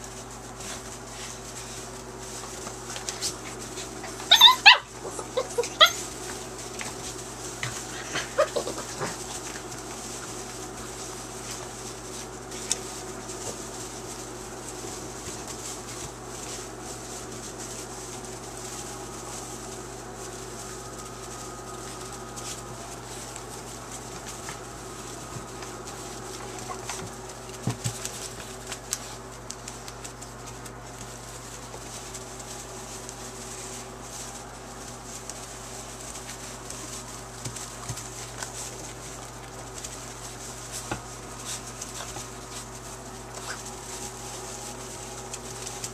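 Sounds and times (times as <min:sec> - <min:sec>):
puppies scuffling in wood shavings: 0:00.0 - 0:45.9
steady background hum: 0:00.0 - 0:45.9.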